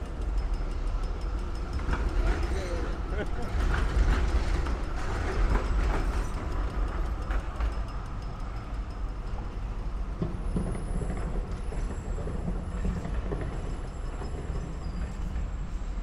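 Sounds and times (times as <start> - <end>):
trams rumbling on tracks: 0.0 - 16.0.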